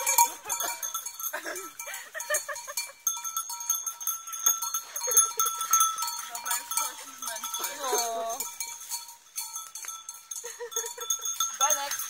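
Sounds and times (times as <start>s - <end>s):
sheep bells clanking: 0.0s - 12.0s.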